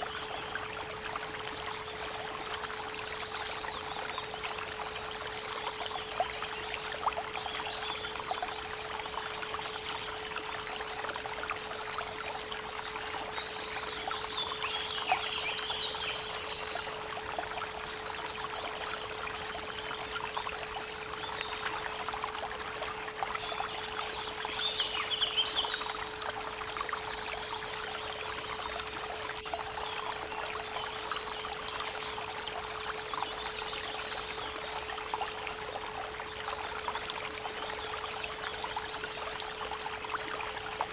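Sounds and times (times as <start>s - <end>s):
creek water running: 0.0s - 40.9s
songbirds chirping: 0.0s - 40.9s.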